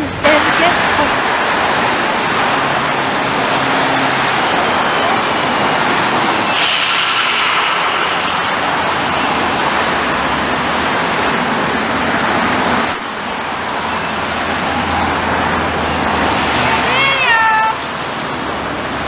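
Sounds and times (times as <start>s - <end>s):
bus engine drone: 0.0s - 19.0s
street traffic: 0.0s - 19.0s.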